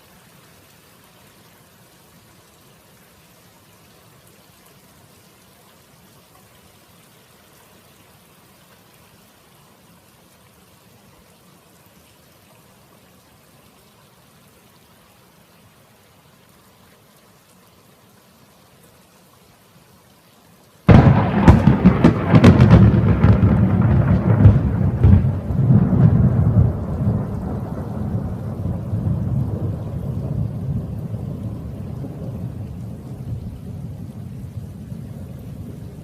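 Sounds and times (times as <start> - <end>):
faint steady rain: 0.0 - 36.0.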